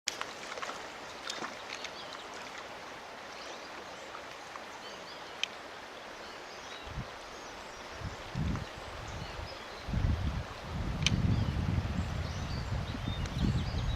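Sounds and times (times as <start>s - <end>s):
stream water rushing: 0.1s - 13.9s.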